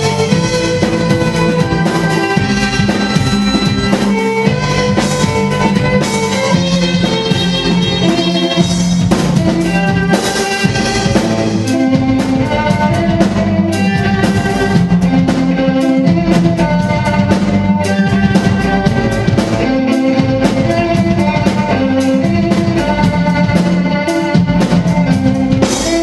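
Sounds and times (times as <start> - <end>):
orchestra strings: 0.0 - 26.0
rock drum beat: 0.0 - 26.0.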